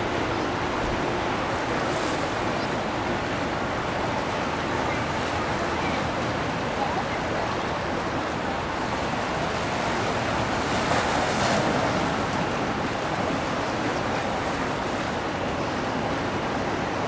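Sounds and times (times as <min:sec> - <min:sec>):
churned water rushing: 0:00.0 - 0:17.0.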